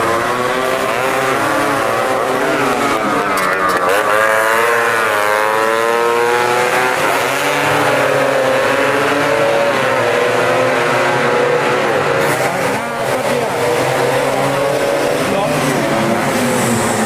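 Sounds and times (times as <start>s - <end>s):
racing scooter engines revving: 0.0s - 17.0s.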